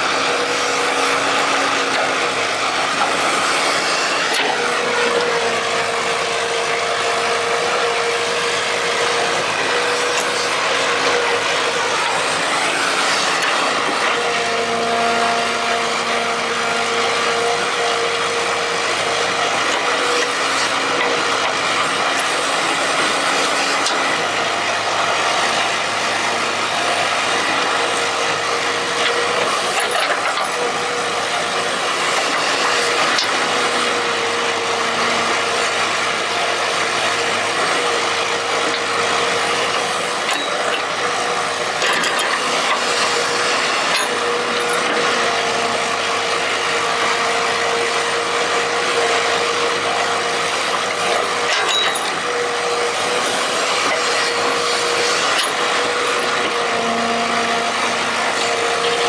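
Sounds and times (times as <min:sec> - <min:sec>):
excavator running: 0:00.0 - 0:59.0.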